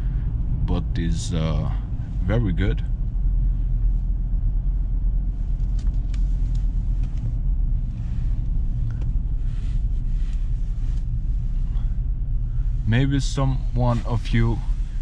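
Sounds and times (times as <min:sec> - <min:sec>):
engine and road rumble in cab: 0:00.0 - 0:15.0.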